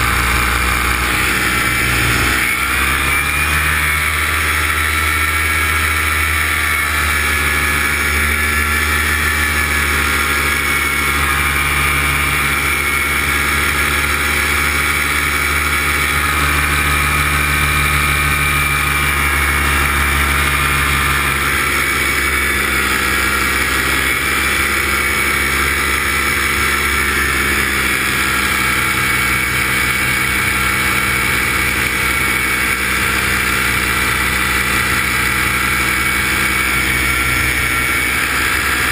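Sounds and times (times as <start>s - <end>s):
light aircraft engine running: 0.0s - 38.9s.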